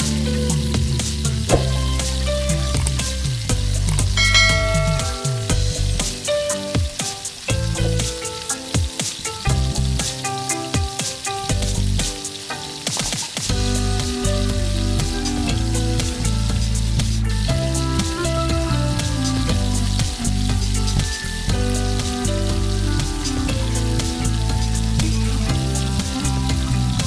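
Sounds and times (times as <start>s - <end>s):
curry sizzling in a pan: 0.0s - 27.0s.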